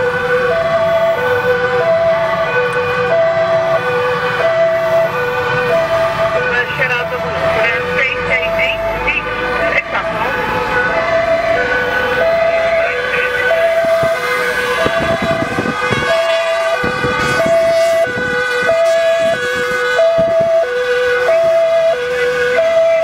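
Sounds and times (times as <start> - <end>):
passing traffic: 0.0 - 23.0
two-tone siren: 0.0 - 23.0.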